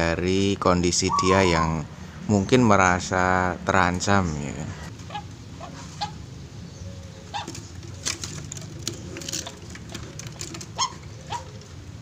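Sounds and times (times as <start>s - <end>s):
doves calling: 0.4s - 3.1s, 3.8s - 12.0s.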